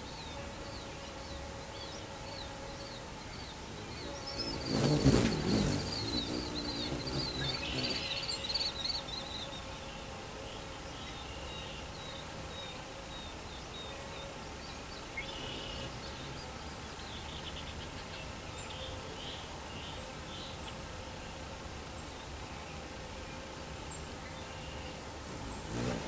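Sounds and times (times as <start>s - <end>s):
birds chirping: 0.0s - 26.0s
insects buzzing: 0.0s - 26.0s.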